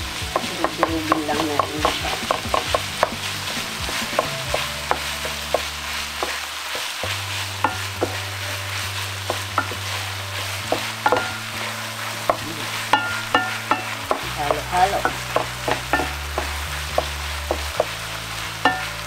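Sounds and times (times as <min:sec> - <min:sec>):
meat sizzling in a frying pan: 0:00.0 - 0:19.0
spatula scraping a pan: 0:00.1 - 0:19.0.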